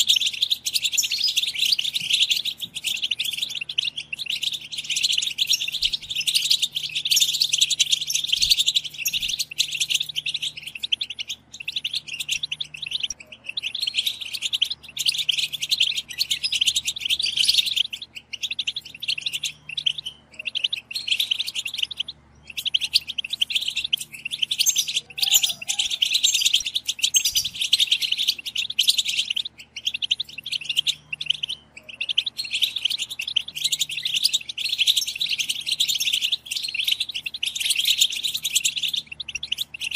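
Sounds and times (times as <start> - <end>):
goldfinches twittering: 0.0 - 39.9.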